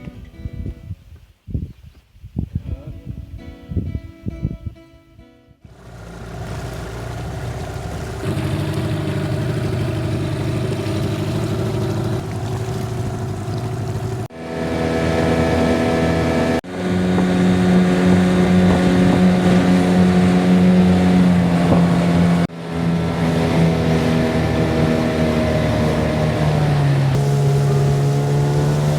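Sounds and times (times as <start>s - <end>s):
boat engine running: 5.7s - 28.9s.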